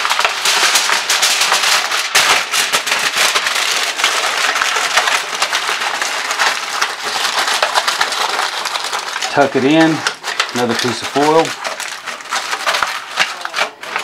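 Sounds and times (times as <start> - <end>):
aluminum foil crinkling: 0.0 - 14.0.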